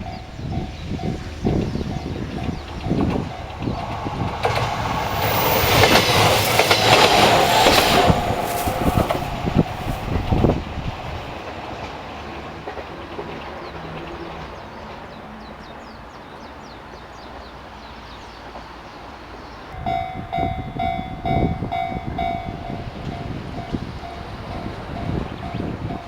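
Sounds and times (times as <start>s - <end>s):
train rumble with low knocks: 0.0s - 16.2s, 18.5s - 26.0s
train rumbling past: 0.0s - 26.0s.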